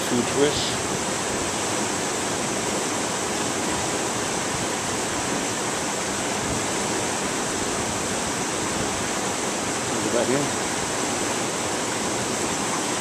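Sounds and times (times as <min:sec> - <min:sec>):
brook rapids over rocks: 0:00.0 - 0:13.0.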